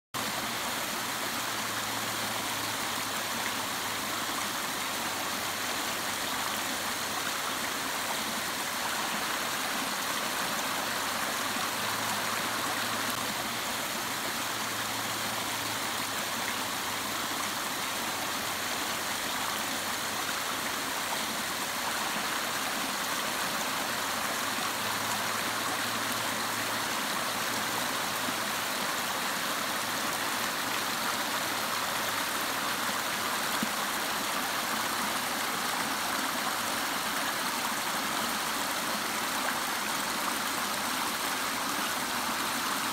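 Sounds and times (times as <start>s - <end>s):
stream splashing over rocks: 0.2s - 42.9s.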